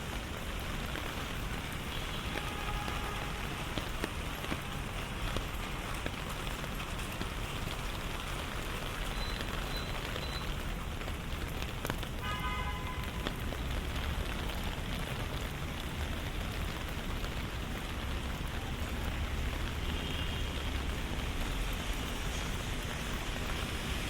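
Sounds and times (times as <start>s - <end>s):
rain on wet surfaces: 0.0s - 24.0s.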